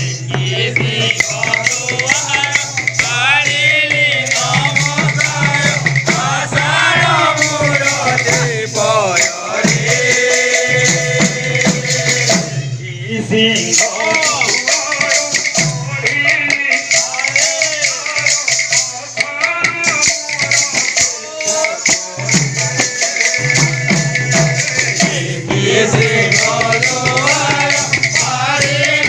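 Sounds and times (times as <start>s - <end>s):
clappers with jingles rattling: 0.0s - 12.6s, 13.4s - 29.0s
drum: 0.0s - 29.0s
people singing: 0.0s - 29.0s.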